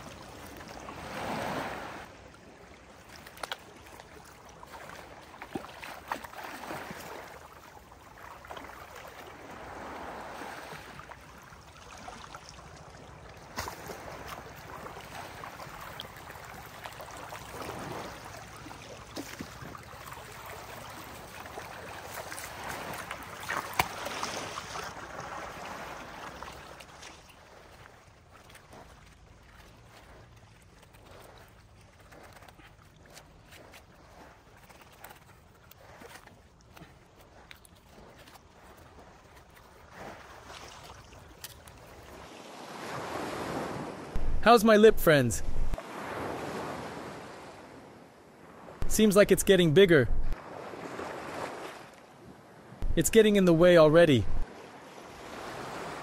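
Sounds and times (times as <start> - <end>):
waves washing on shore: 0.0 - 56.0.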